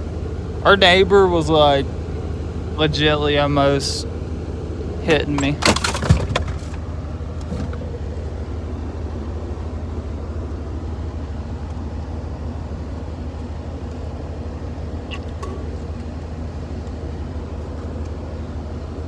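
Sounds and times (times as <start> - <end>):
road noise: 0.0 - 19.0
vehicle engine humming: 0.0 - 19.0.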